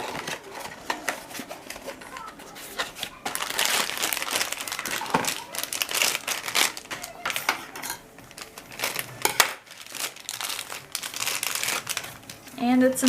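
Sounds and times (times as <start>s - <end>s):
packaging crinkling: 0.0s - 12.6s.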